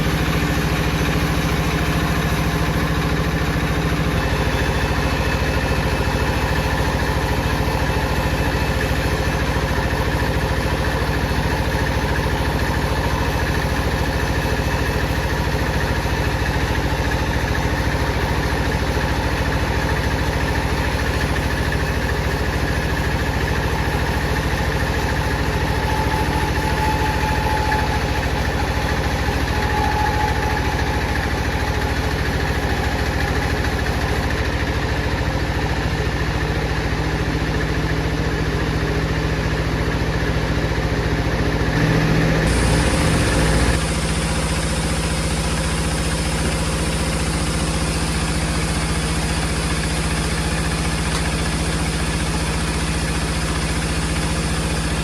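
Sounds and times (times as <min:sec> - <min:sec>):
motor-driven wood saw running: 0:00.0 - 0:55.0.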